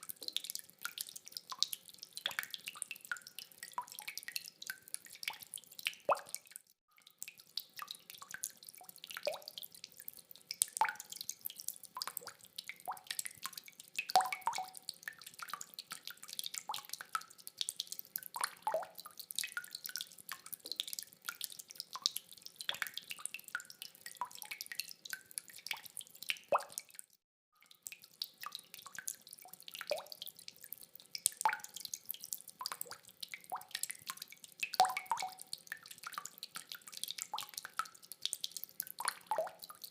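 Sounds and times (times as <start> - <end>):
rainwater dripping: 0.0 - 39.9.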